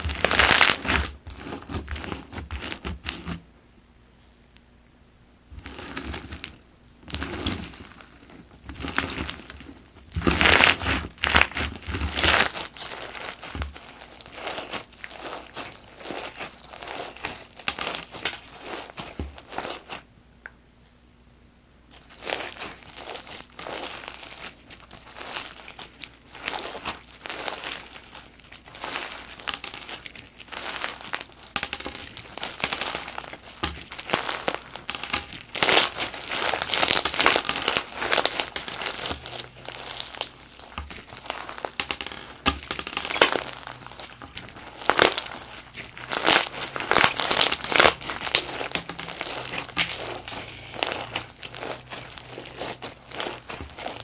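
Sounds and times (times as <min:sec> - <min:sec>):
slime beads crackling: 0:00.0 - 0:03.4, 0:05.6 - 0:20.0, 0:21.9 - 0:54.0.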